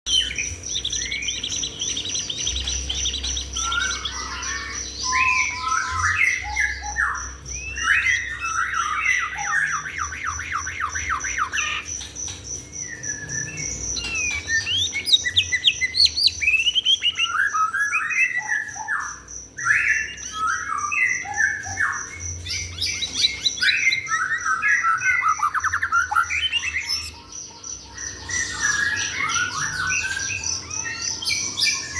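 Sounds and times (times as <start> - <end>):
songbird trilling and chirping: 0.1 - 31.9.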